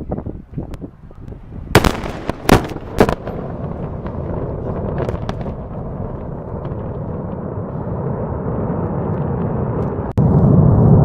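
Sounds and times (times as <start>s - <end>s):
explosion and fire rumble: 1.6s - 11.0s.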